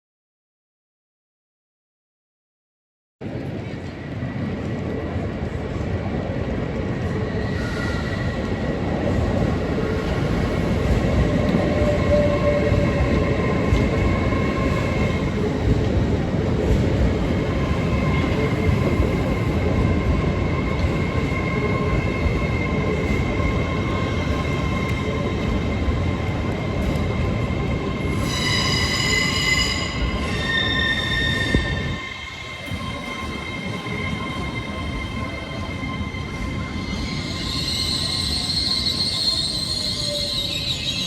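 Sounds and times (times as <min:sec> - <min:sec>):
train rumbling on rails: 0:03.2 - 0:41.0.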